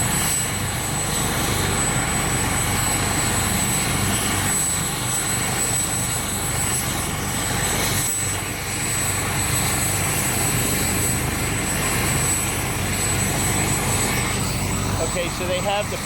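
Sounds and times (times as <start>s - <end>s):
helicopter rotor beat: 0.0s - 16.0s
turbine whine: 0.0s - 16.0s.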